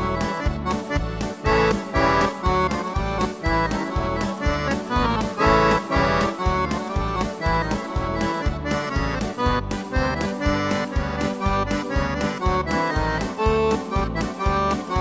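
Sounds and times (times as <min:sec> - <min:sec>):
accordion polka tune: 0:00.0 - 0:15.0
keyboard backing track: 0:00.0 - 0:15.0
steady bass beat: 0:00.0 - 0:15.0.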